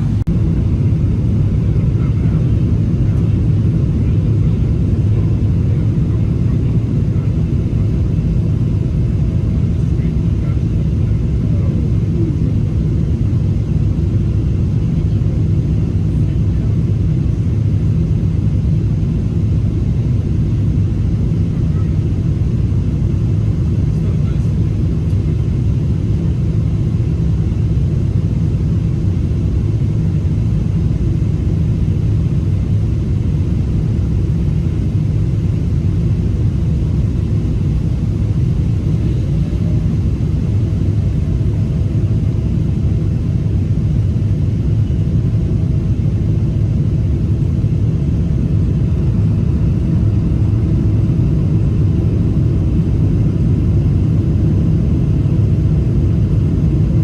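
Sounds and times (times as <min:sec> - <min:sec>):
aircraft engines rumbling: 0:00.0 - 0:57.0.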